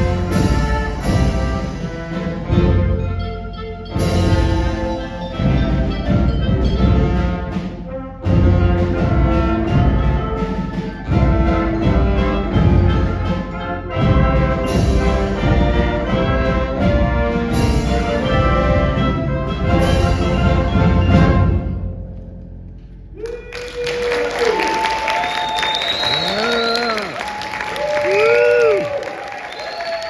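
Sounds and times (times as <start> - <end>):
concert band playing: 0.0 - 22.1, 23.8 - 30.0.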